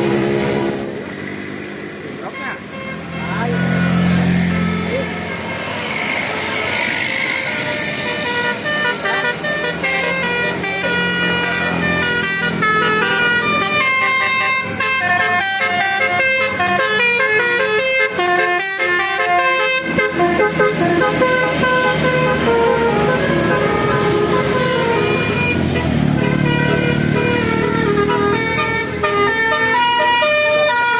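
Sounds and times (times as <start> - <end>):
bus engine running: 0.0 - 30.9
air horns playing a tune: 2.3 - 30.9.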